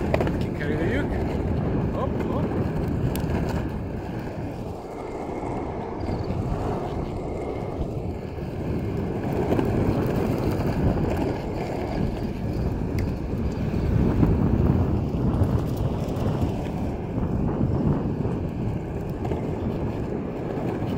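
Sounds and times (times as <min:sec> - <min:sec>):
skateboard wheels rolling on asphalt: 0:00.0 - 0:20.9
wind buffeting microphone: 0:00.0 - 0:20.9.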